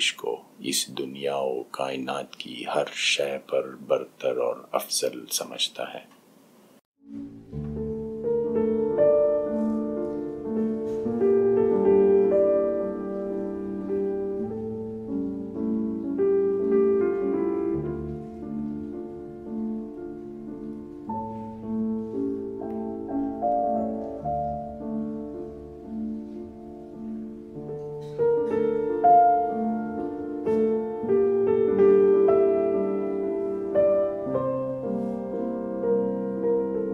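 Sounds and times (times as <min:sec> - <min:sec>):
slow piano music: 0:07.0 - 0:36.9.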